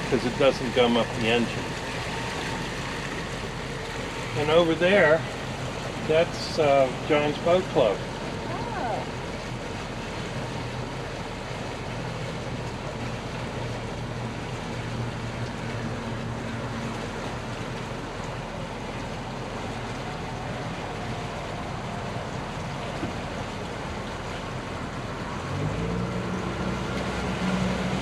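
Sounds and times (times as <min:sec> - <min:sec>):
motorboat engine humming: 0:00.0 - 0:28.0
water rushing past: 0:00.0 - 0:28.0.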